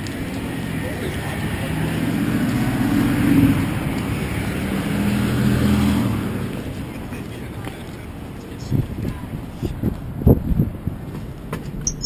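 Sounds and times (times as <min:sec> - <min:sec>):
passing vehicles engine and tyre noise: 0:00.0 - 0:12.0.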